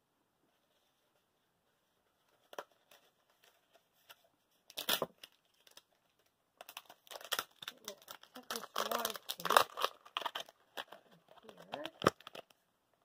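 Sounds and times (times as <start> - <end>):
paper crinkling and rustling: 1.9 - 12.6.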